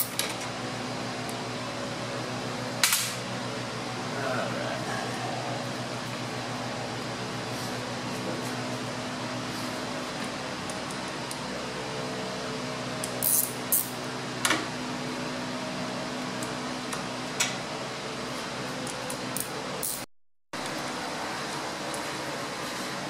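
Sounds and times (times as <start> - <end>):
fan humming: 0.0 - 20.0, 20.6 - 23.0.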